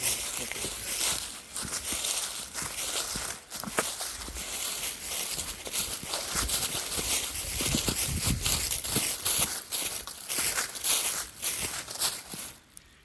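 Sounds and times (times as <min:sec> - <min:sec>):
footsteps crunching dry leaves: 0:00.0 - 0:13.0.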